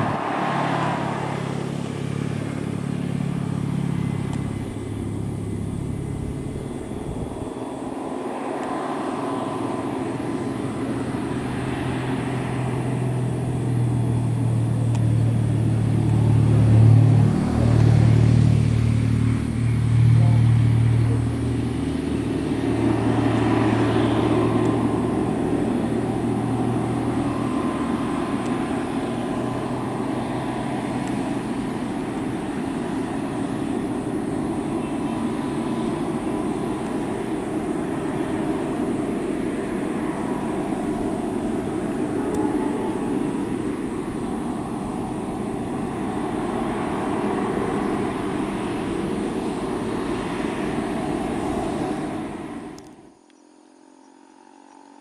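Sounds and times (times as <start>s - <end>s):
truck diesel engine under load: 0.0s - 53.1s.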